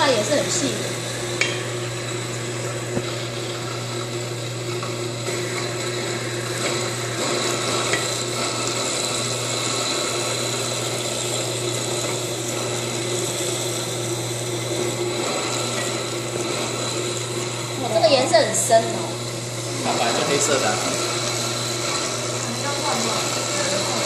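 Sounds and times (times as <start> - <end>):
grinder motor humming and whining: 0.0 - 24.0.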